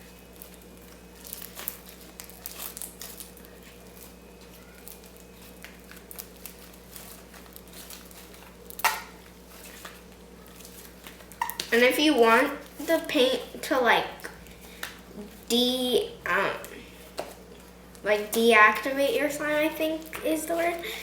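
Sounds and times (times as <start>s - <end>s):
slime squelch: 0.0s - 21.0s.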